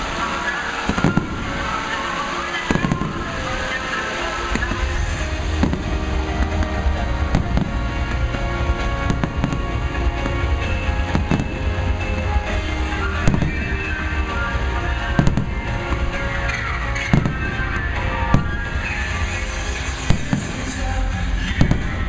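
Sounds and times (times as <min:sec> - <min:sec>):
fireworks cracking and popping: 0:00.0 - 0:22.0
loud music with deep bass: 0:00.0 - 0:22.0.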